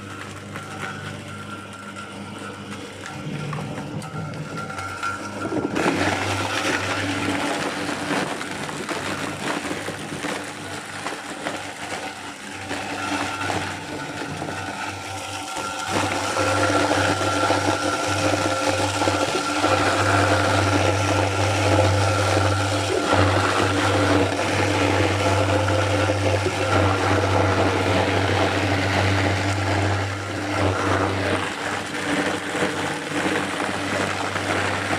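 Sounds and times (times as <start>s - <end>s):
apple mill grinding: 0.0s - 34.9s.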